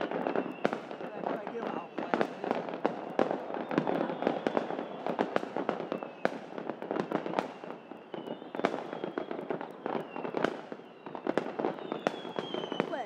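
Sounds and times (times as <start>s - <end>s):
fireworks bangs and pops: 0.0s - 13.0s.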